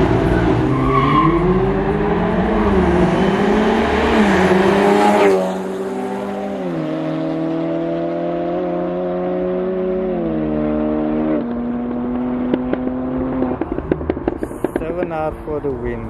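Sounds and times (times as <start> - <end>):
car engines revving and accelerating: 0.0 - 16.0.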